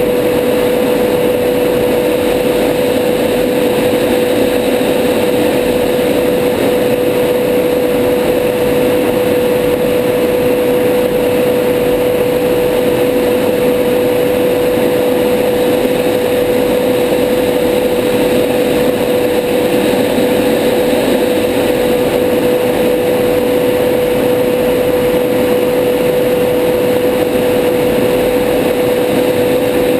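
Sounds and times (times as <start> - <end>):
jet engine and airflow drone: 0.0 - 29.9.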